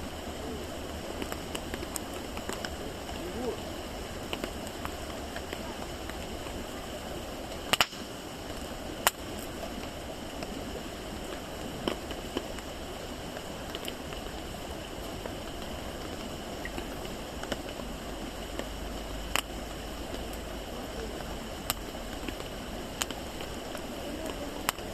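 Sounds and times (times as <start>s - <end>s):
fire crackles and pops: 0.0s - 24.9s
wood fire hissing: 0.0s - 24.9s.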